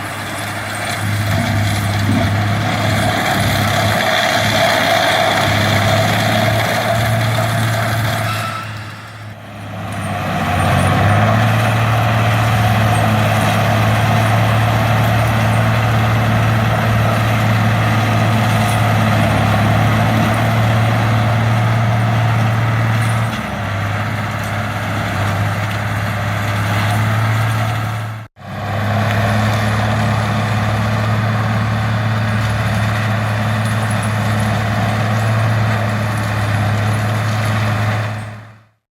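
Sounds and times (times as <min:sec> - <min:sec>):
forestry mulcher grinding: 0:00.0 - 0:38.6
tractor engine drone: 0:00.0 - 0:38.8.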